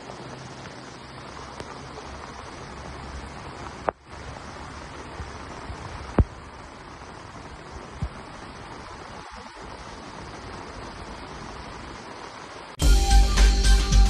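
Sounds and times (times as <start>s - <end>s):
floodwater rushing: 0.0s - 12.8s.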